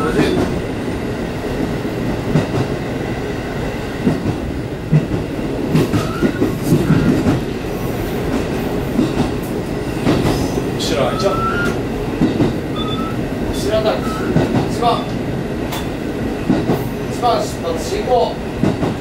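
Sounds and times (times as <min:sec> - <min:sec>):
railcar engine and rail rumble: 0:00.0 - 0:19.0.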